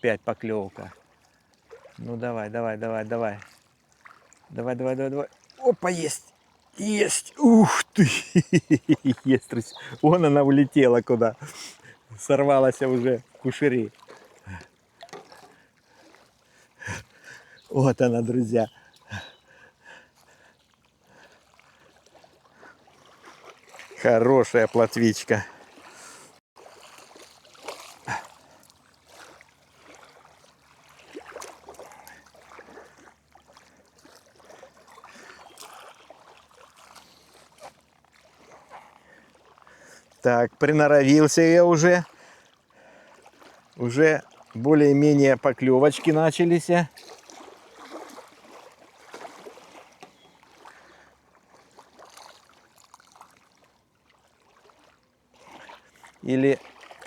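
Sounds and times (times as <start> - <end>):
water lapping and trickling: 0.0 - 57.0
small splashes: 0.6 - 40.3, 41.0 - 57.0.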